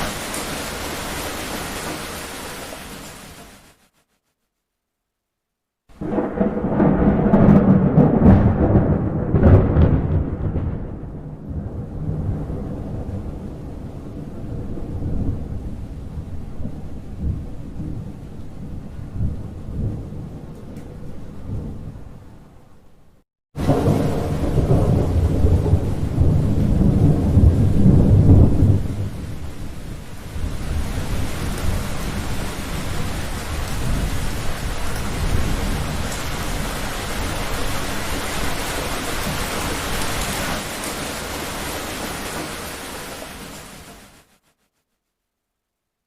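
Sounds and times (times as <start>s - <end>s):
heavy rain: 0.0s - 4.0s, 5.9s - 22.1s, 23.6s - 44.5s
thunder rumbling: 5.9s - 22.6s, 23.6s - 43.8s.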